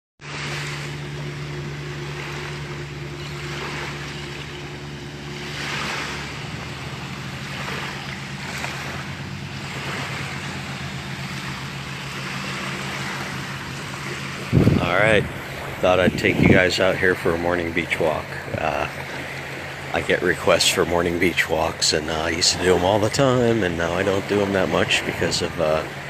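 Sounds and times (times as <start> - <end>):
low engine hum: 0.2 - 26.0
small waves breaking on sand: 0.2 - 26.0.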